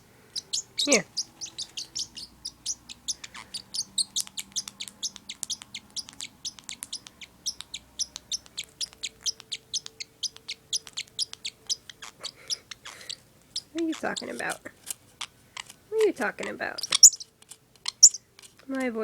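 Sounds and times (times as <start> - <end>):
parrotlet chirping rapidly: 0.3 - 14.6, 15.2 - 18.3.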